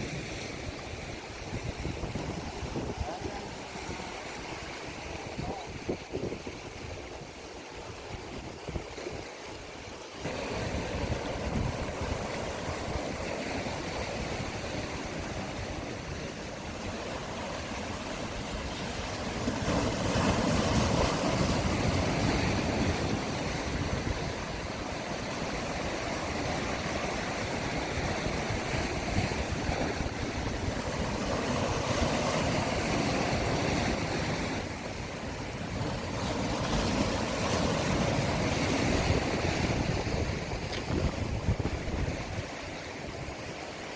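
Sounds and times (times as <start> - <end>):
wind noise on microphone: 0.0 - 17.1, 18.1 - 43.9
sea waves washing: 0.0 - 43.9.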